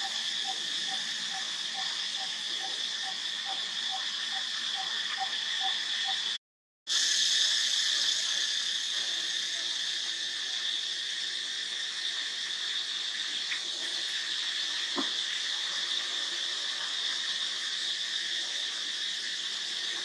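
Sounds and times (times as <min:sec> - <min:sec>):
insect chorus drone: 0:00.0 - 0:20.0.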